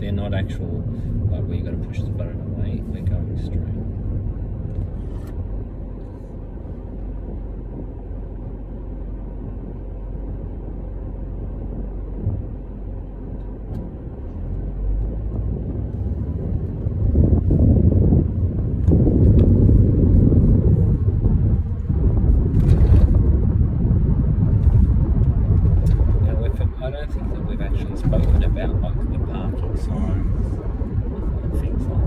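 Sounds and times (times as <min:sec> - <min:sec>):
car road and engine rumble: 0:00.0 - 0:32.0.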